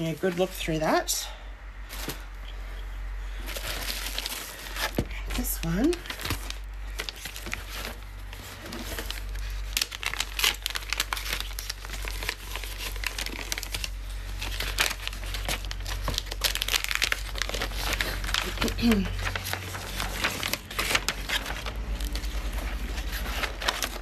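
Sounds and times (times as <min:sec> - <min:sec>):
wrapping paper crinkling: 0:03.2 - 0:24.0.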